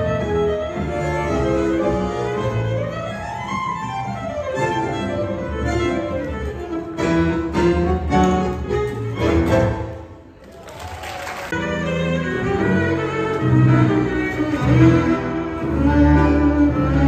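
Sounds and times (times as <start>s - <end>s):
tango band playing: 0.0s - 10.4s, 11.5s - 17.0s.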